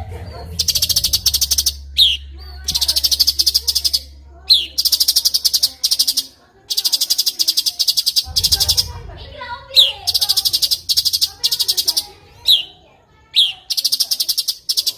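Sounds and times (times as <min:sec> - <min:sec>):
bird singing pulsed trills: 0:00.0 - 0:14.9.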